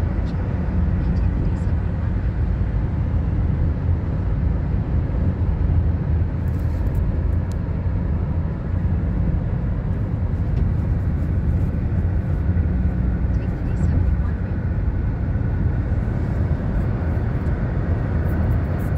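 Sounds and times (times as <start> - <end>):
car road noise rumble: 0.0 - 18.9.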